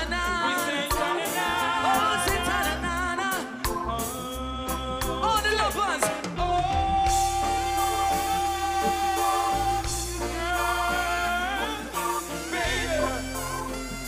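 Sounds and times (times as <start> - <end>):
man singing: 0.0 - 13.9
reggae bass and drums: 0.0 - 14.0.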